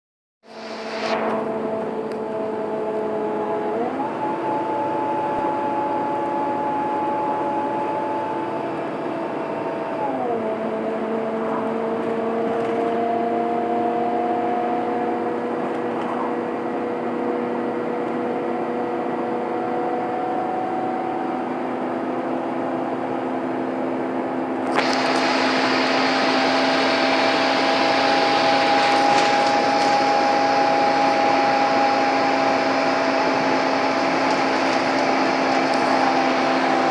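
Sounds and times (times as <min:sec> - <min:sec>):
bus engine whining uphill: 0:00.4 - 0:36.9.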